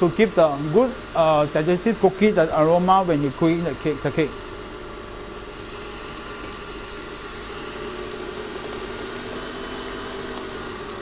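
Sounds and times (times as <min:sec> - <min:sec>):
electric stand mixer running: 0:00.0 - 0:11.0.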